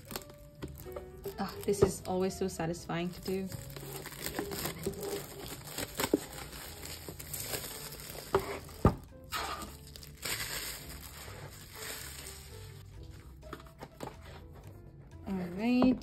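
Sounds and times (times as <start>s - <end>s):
plastic wrap crinkling: 0.0s - 2.1s, 3.1s - 14.4s.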